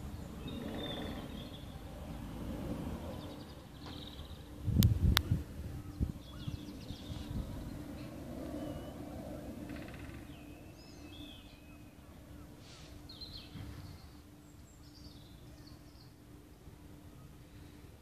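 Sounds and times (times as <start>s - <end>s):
faint steady hum: 0.0s - 18.0s
small birds chirping: 0.0s - 18.0s.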